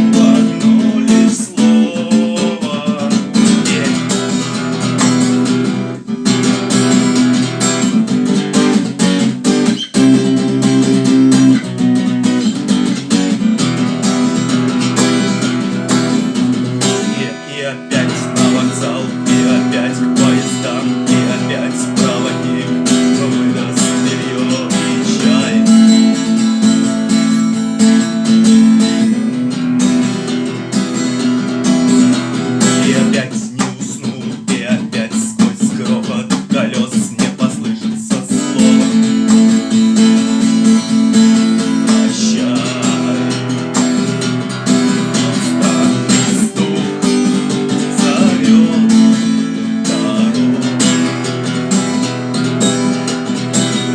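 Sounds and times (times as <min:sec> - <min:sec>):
acoustic guitar strumming: 0:00.0 - 0:53.9.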